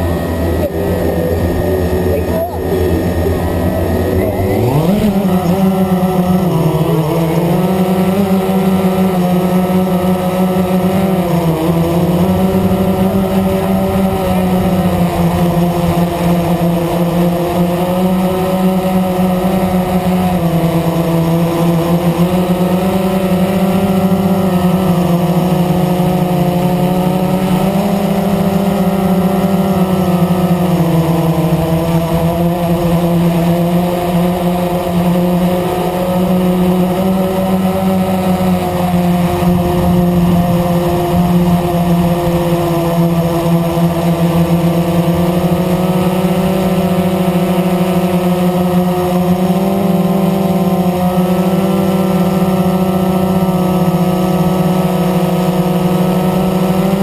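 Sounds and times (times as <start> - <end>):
drone motors and propellers: 0.0 - 57.0.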